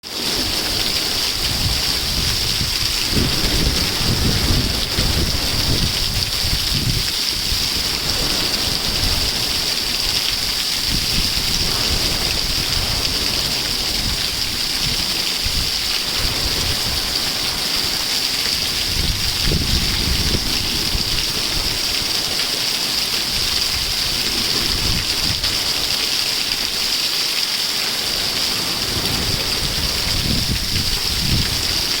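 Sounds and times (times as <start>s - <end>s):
waterfall rushing: 0.0s - 32.0s
wind rumbling on microphone: 0.1s - 27.0s, 28.0s - 32.0s.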